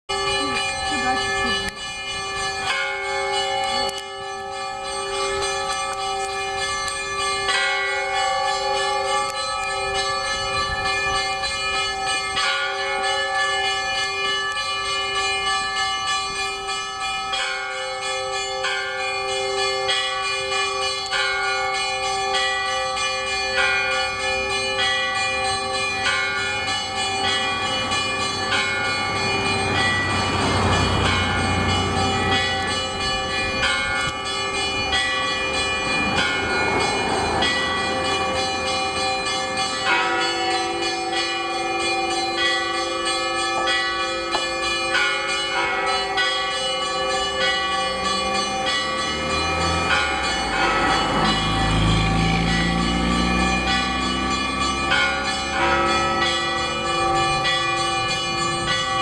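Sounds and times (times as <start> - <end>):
church bells ringing: 0.0 - 59.0.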